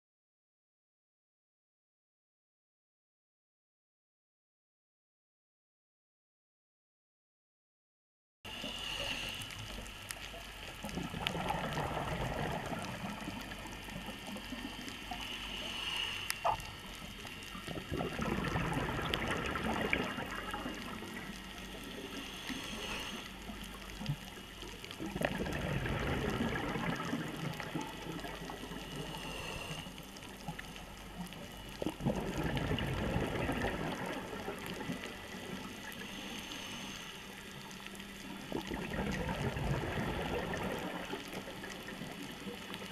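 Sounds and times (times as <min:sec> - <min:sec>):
exhaled bubbles underwater: 0:08.5 - 0:42.9
underwater hiss: 0:08.5 - 0:42.9.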